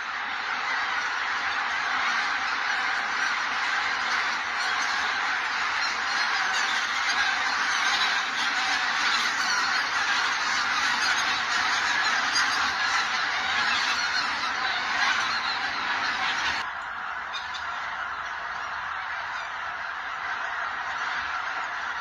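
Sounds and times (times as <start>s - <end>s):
flock of geese honking: 0.0s - 22.0s.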